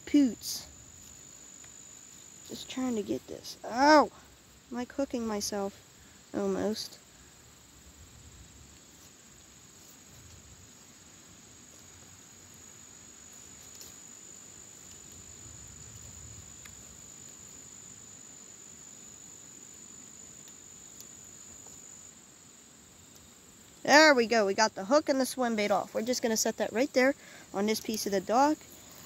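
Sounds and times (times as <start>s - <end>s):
insect trill: 0.0s - 29.0s.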